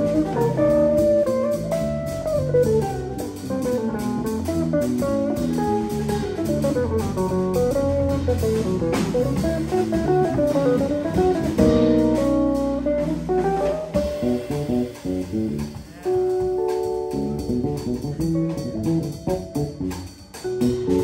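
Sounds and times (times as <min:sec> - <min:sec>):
drum kit with cymbals: 0:00.0 - 0:21.0
electric bass: 0:00.0 - 0:21.0
electric guitar: 0:00.0 - 0:21.0.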